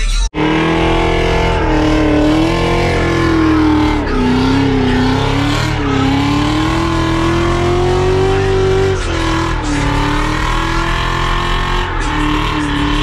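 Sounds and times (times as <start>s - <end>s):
car engine at high revs: 0.4s - 13.0s.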